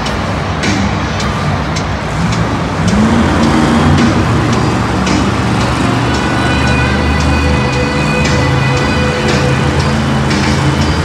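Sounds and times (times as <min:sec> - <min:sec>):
faint arena music: 0:00.0 - 0:11.0
truck engine revving: 0:00.0 - 0:11.0.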